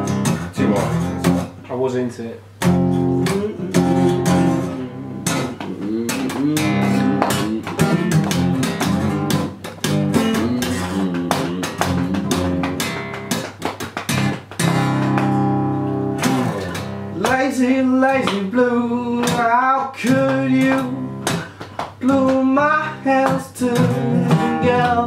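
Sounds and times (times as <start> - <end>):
guitar strumming chords: 0.0 - 1.6, 2.5 - 25.0.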